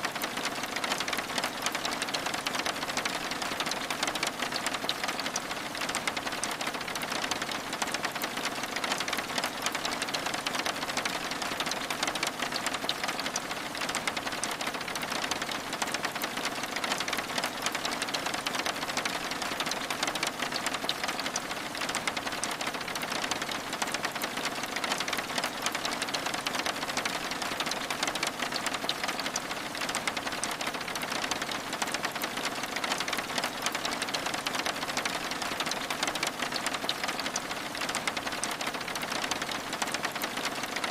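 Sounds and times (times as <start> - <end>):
rain pattering on window glass: 0.0 - 40.9.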